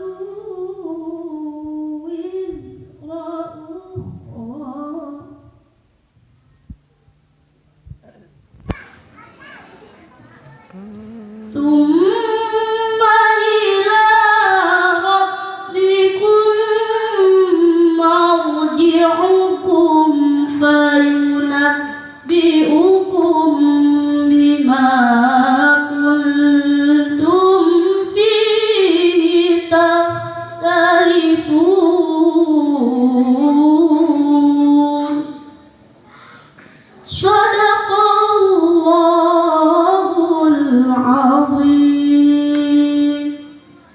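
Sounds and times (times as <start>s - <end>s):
woman reciting melodically: 0.0s - 5.9s, 9.2s - 43.9s.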